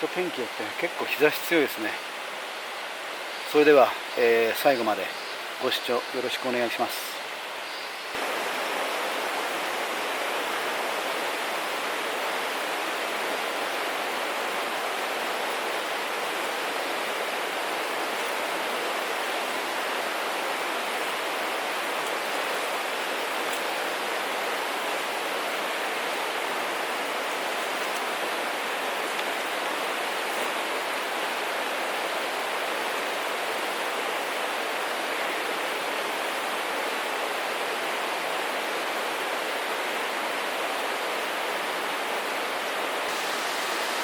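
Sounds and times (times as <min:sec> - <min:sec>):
flowing water rushing: 0:00.0 - 0:44.0.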